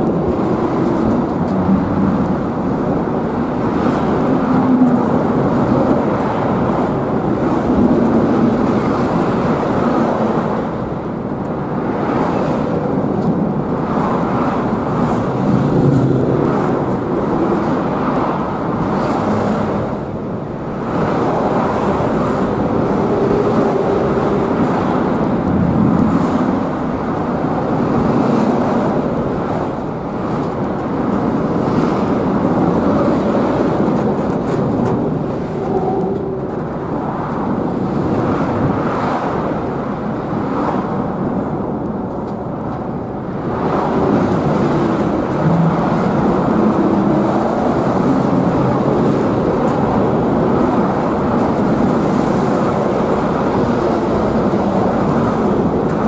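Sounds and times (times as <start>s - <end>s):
outdoor rumble and rush: 0.0s - 56.0s.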